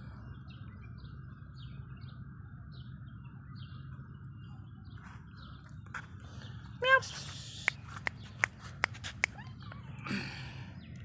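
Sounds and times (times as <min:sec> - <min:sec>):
small bird chirping: 0:00.2 - 0:11.0.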